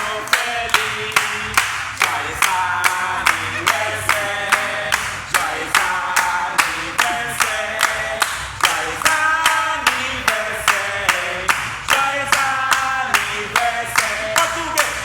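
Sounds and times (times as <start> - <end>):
sharp clapping beat: 0.0 - 15.0
voices singing a chant: 0.0 - 15.0.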